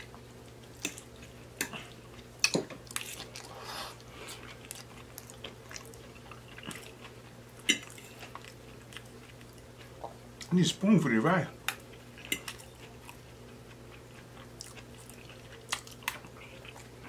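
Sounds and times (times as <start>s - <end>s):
person chewing food: 0.0s - 10.5s, 11.6s - 17.0s.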